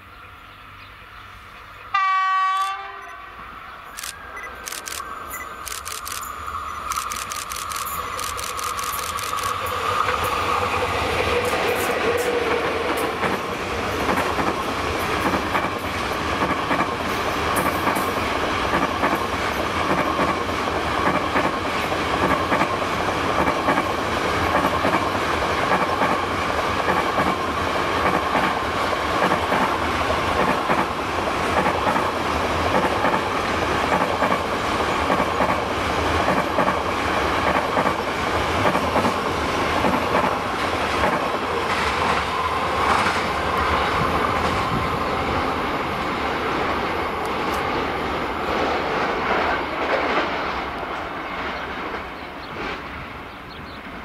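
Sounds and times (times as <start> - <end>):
freight train wheels rumbling: 2.6 - 54.0.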